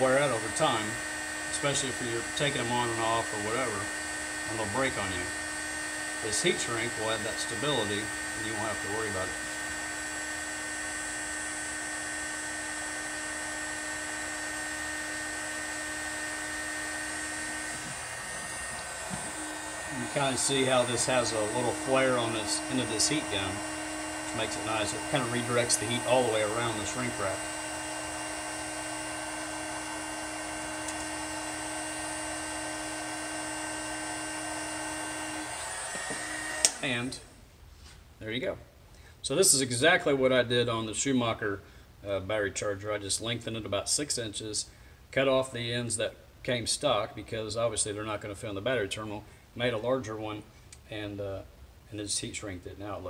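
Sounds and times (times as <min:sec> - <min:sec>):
heat gun fan whine: 0:00.0 - 0:38.2, 0:39.0 - 0:53.0.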